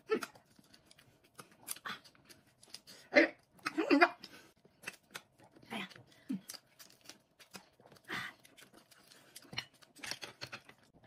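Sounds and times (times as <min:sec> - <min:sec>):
chewing and lip smacks: 0:00.0 - 0:11.0.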